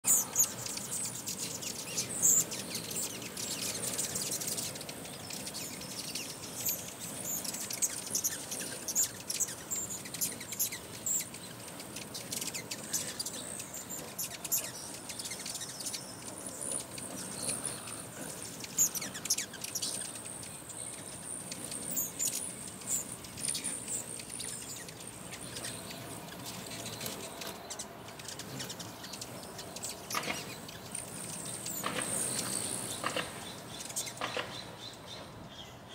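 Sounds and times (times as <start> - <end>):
hummingbirds chipping and chittering: 0.0 - 35.9.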